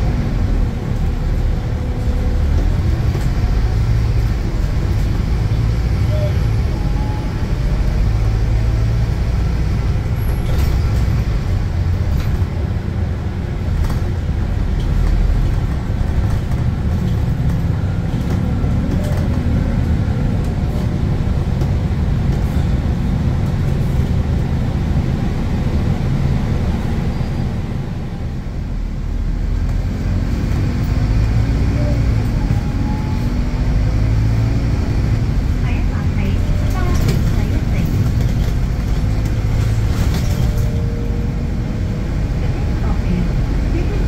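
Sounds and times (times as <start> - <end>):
bus engine drone: 0.0 - 44.0.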